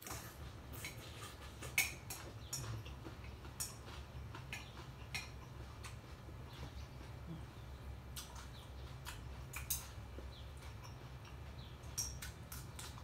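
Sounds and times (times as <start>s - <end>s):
chewing: 0.0s - 13.0s
low steady hum: 0.0s - 13.0s.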